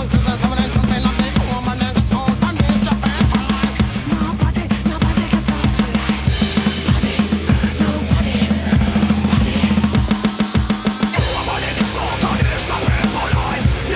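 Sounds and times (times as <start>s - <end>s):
electronic drum kit rock beat: 0.0s - 13.9s
rock music with singing: 0.0s - 13.9s.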